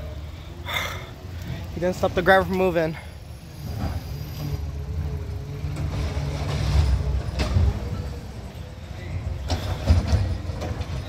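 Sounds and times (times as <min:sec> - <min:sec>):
garbage truck engine and hydraulics: 0:00.0 - 0:11.0.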